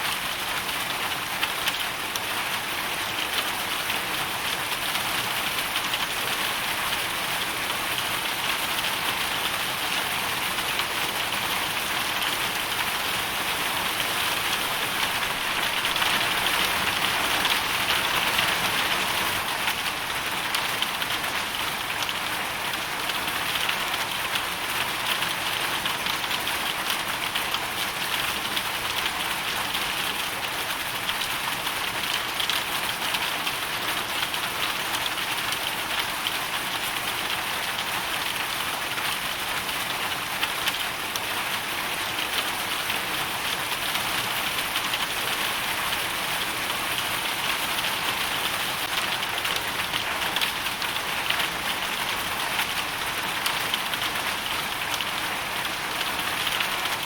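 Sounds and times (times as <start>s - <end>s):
hail and rain pattering: 0.0s - 57.0s.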